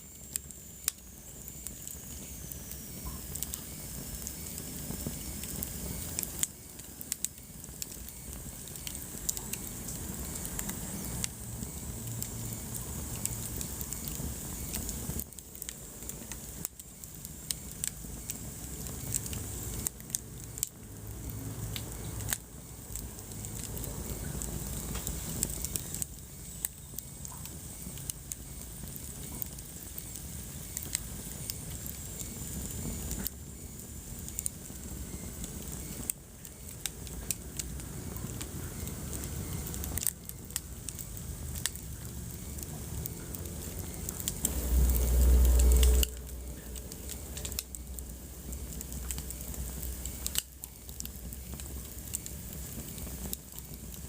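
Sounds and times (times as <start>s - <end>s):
burning logs crackling and popping: 0.0s - 54.0s
fire flames rumbling: 0.0s - 54.0s.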